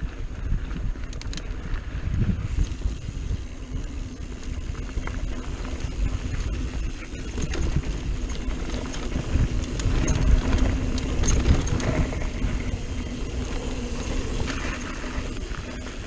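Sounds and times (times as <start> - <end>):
bike clicks and rattles: 0.0 - 16.0
bike tyres on dirt trail: 0.0 - 16.0
wind rumble on microphone: 0.0 - 16.0.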